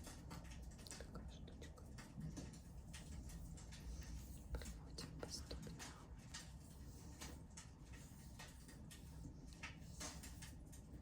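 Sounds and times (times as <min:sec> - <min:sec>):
low steady rumble: 0:00.0 - 0:11.0
wood fire crackling: 0:00.0 - 0:11.0.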